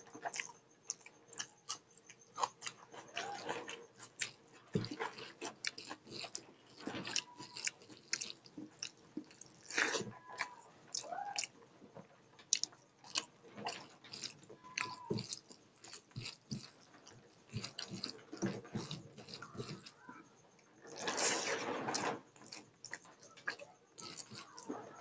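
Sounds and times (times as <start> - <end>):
chewing and wet mouth smacks: 0.0 - 11.5, 12.5 - 20.0, 21.9 - 25.0
fingers squishing through rice: 0.0 - 11.5, 12.6 - 20.3, 21.9 - 25.0.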